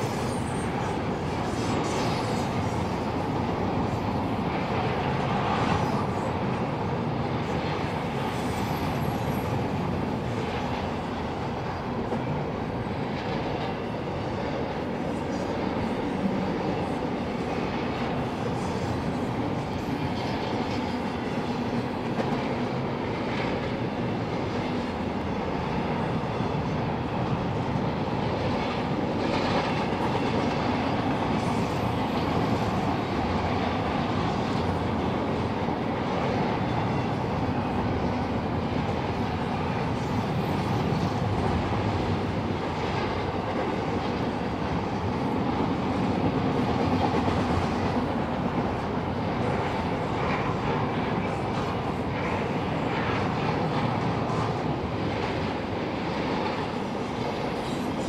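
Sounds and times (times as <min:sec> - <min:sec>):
rumble of steel wheels on rail: 0:00.0 - 0:58.0.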